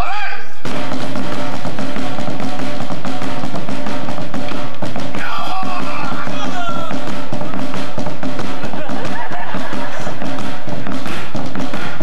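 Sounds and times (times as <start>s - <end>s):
hand drumming on wooden drums: 0.6s - 12.0s.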